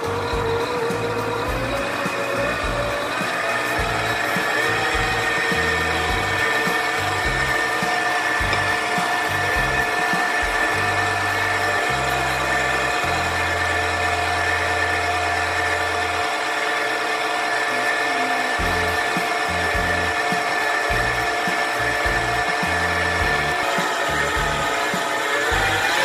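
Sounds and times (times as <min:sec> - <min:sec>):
stand mixer motor whine: 0:00.0 - 0:26.0.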